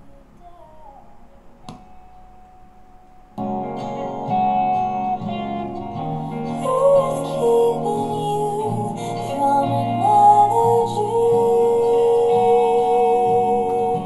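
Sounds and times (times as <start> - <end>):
guitar music through speaker: 0.0 - 14.0.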